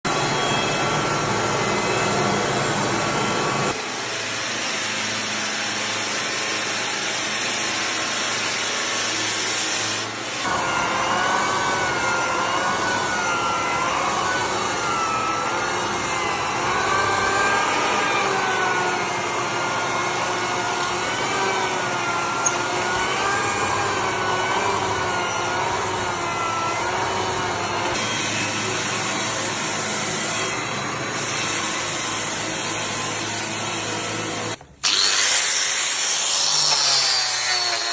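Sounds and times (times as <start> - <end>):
floor sanding machine grinding: 0.2 - 37.9.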